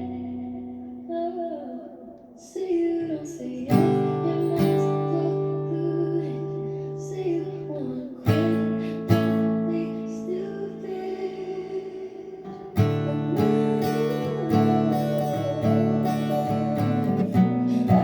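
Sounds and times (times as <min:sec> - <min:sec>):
acoustic guitar strumming: 0:03.2 - 0:18.0.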